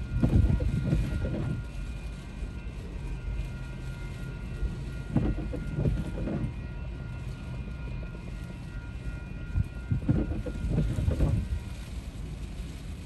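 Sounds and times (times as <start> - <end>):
railroad crossing bell ringing: 0.0 - 11.8
wind and rain rumble: 0.0 - 13.0.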